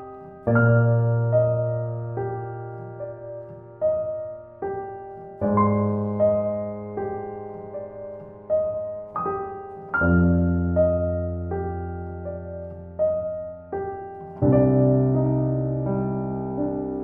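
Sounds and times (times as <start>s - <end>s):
slow gentle piano: 0.0s - 17.0s.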